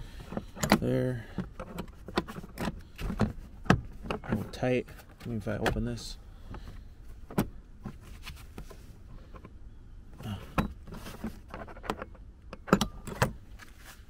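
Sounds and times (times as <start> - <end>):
plastic trim creaking and scraping: 0.0 - 9.4, 10.2 - 13.8.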